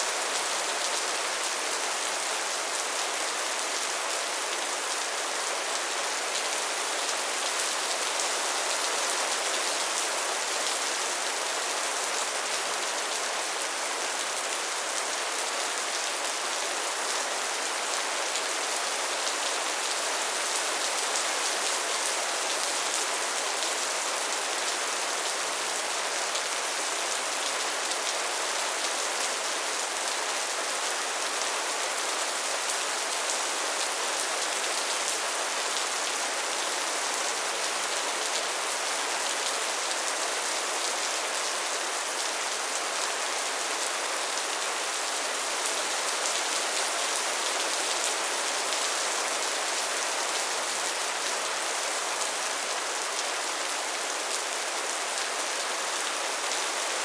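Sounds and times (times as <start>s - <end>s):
heavy rain on a metal roof: 0.0s - 57.0s.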